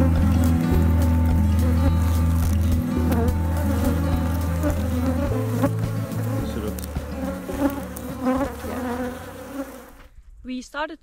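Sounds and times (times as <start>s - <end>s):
honeybees buzzing: 0.0s - 10.1s.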